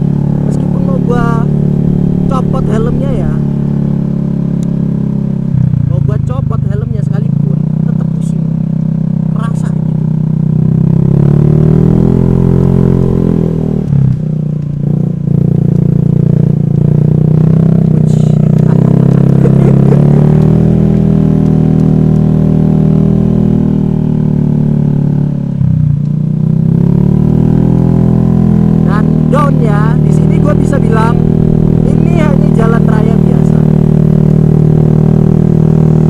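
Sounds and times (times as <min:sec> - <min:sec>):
scooter engine running: 0:00.0 - 0:36.0.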